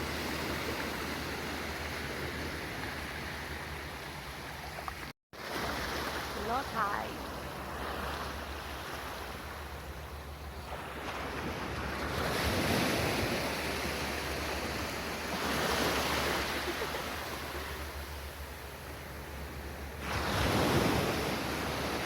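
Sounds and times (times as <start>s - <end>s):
small waves washing on beach: 0.0s - 22.0s.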